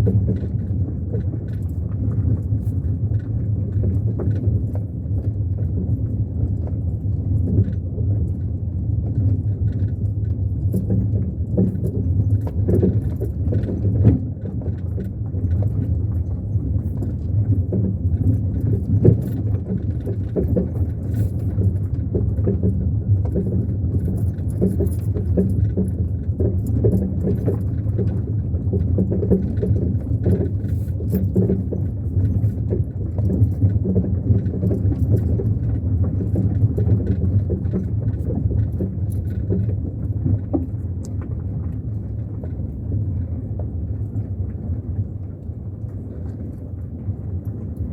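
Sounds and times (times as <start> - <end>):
car engine and tyres rumbling: 0.0 - 47.9
small rattles and knocks: 0.0 - 47.9.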